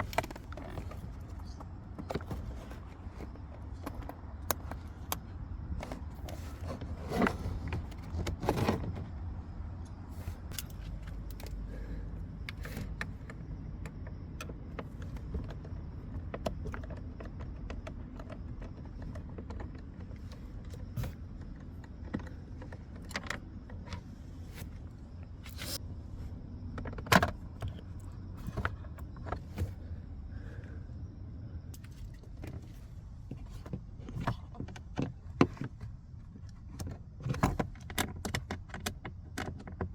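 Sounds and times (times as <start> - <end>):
steady low hum: 0.0 - 37.8.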